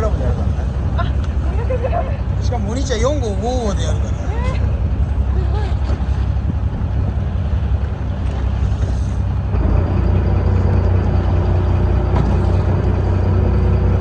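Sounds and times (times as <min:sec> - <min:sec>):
boat engine drone: 0:00.0 - 0:14.0
choppy sea: 0:00.0 - 0:14.0
wind: 0:00.0 - 0:14.0.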